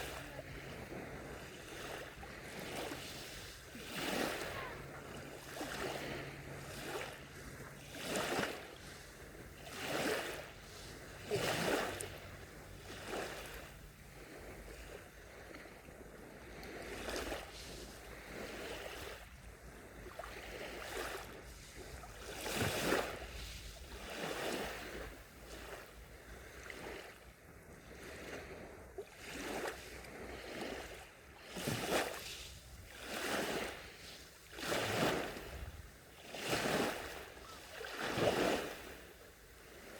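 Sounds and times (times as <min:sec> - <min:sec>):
small waves washing up a beach: 0:00.0 - 0:39.9.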